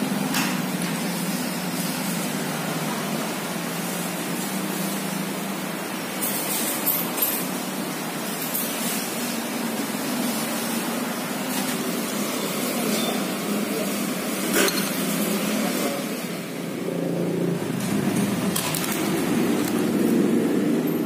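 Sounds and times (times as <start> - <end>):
street food stall background noise: 0.0 - 21.0.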